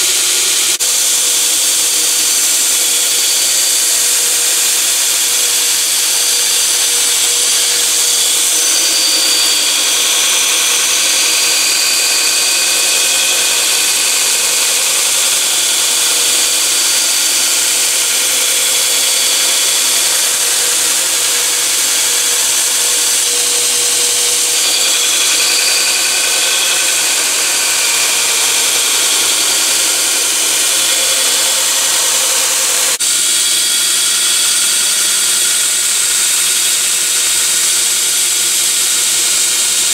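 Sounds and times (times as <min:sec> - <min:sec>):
belt grinder grinding steel blade: 0:00.0 - 0:39.9.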